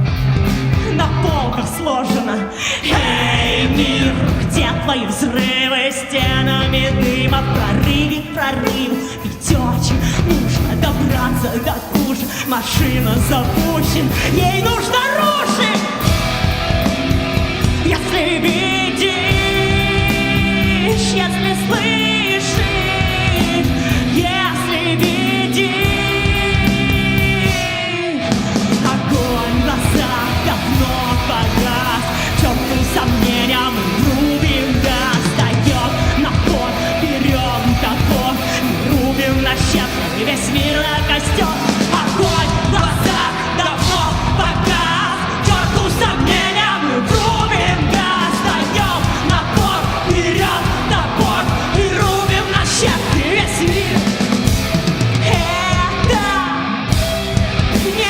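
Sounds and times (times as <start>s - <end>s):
drums: 0.0s - 58.0s
rock band playing: 0.0s - 58.0s
woman singing: 0.8s - 16.2s, 17.7s - 54.3s, 55.0s - 58.0s.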